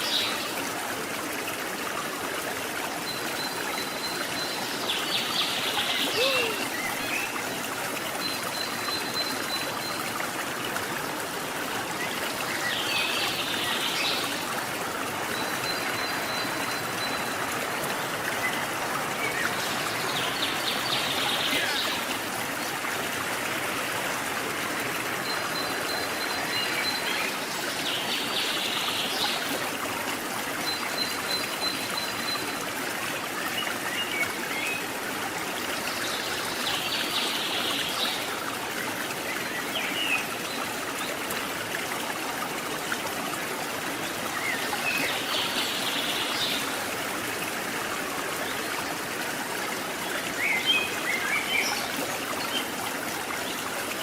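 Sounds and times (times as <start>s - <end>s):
stream running: 0.0s - 54.0s.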